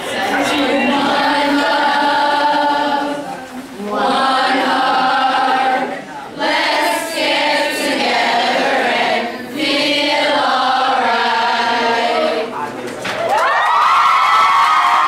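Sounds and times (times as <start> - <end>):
children singing in unison: 0.0 - 12.6.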